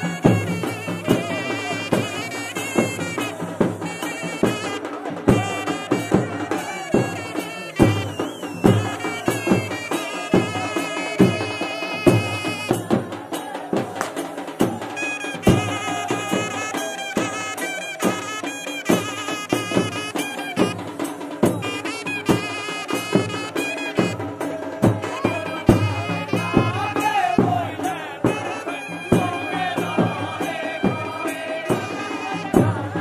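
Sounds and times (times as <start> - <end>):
reedy wind instrument melody: 0.0 - 13.6, 14.6 - 33.0
drum beats: 0.0 - 33.0.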